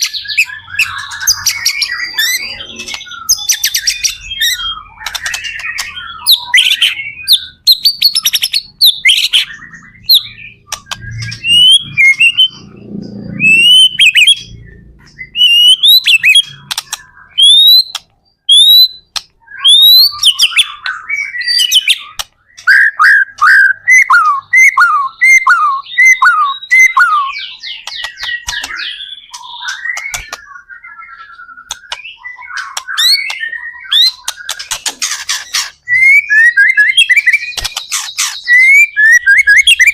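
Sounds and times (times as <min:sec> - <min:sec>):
bird singing whistles and chips: 0:00.0 - 0:12.7, 0:13.3 - 0:39.9.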